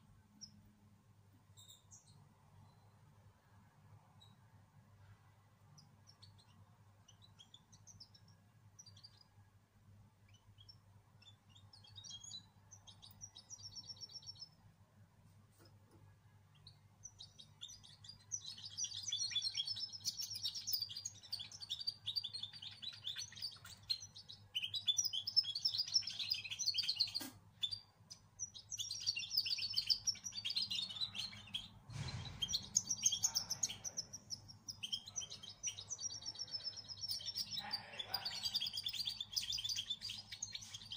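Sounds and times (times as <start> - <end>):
songbird chirping and twittering: 0.0 - 40.9.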